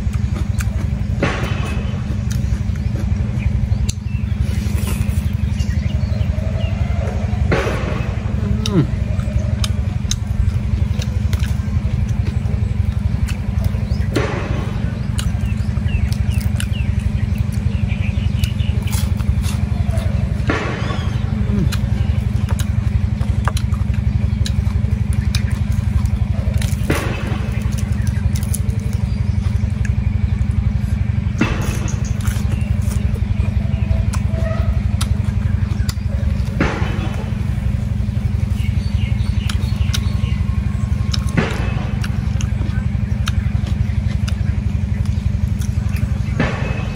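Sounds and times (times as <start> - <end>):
crunchy food chewing: 0.0 - 46.9
small engine droning: 0.0 - 46.9.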